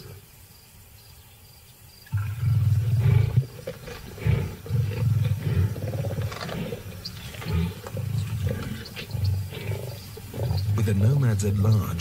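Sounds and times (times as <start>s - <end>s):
lions growling: 2.1s - 12.0s.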